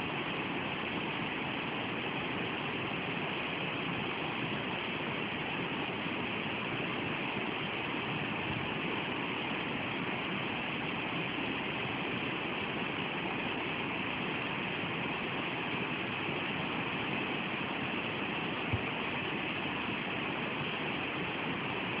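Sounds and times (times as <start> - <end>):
river white water rushing: 0.0 - 22.0.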